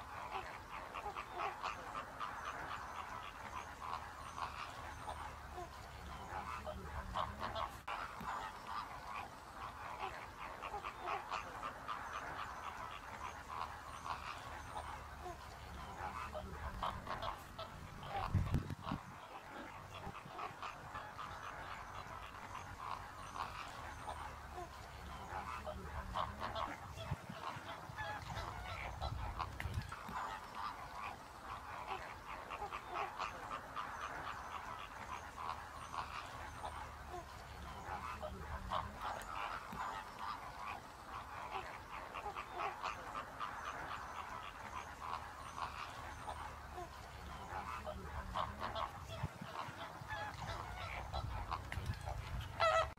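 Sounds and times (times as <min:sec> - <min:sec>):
flamingos calling: 0:00.0 - 0:52.9.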